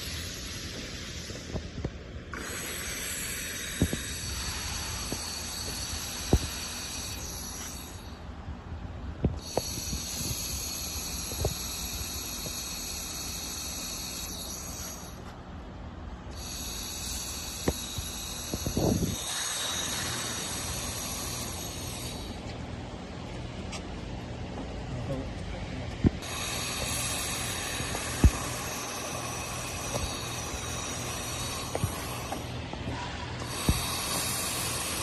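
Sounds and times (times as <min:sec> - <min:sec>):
welding machine hiss: 0:00.0 - 0:08.2, 0:09.2 - 0:15.3, 0:16.4 - 0:22.6, 0:26.2 - 0:35.0
high whine: 0:00.0 - 0:35.0.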